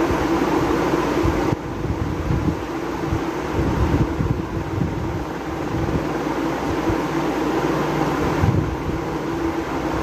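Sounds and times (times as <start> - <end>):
mechanical whir with low hum: 0.0 - 10.0.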